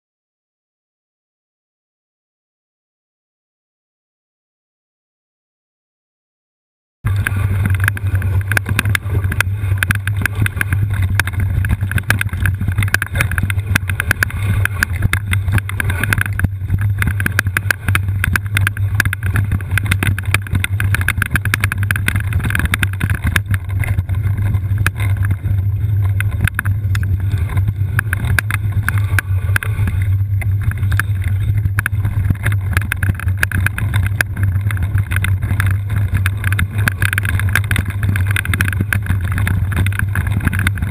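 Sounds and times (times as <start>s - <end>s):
wheelchair rattling over rough trail: 7.1s - 40.9s
wind buffeting microphone: 7.1s - 40.9s.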